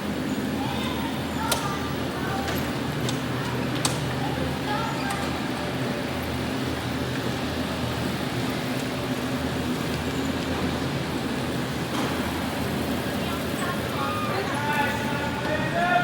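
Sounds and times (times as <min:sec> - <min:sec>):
electric go-kart motor hum: 0:00.0 - 0:15.8.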